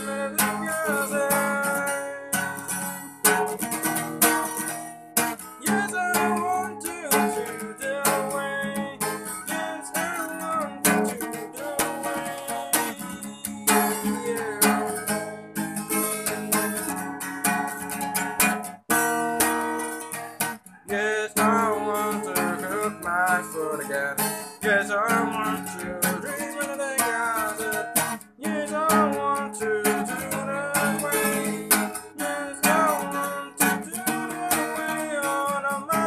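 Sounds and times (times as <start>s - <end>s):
man singing: 0.0s - 17.0s, 20.8s - 36.0s
acoustic guitar strumming: 0.0s - 36.0s.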